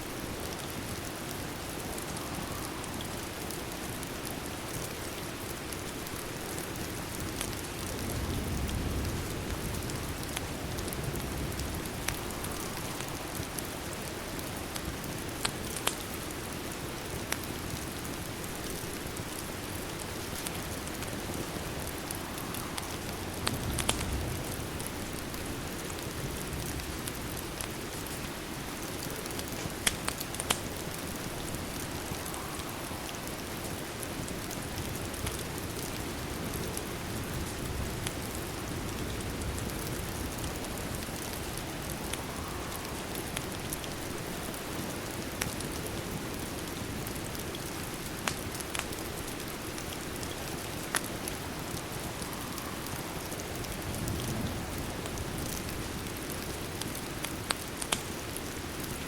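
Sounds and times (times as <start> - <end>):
fireplace fire crackling: 0.0 - 59.0
rain on a window: 0.0 - 59.0.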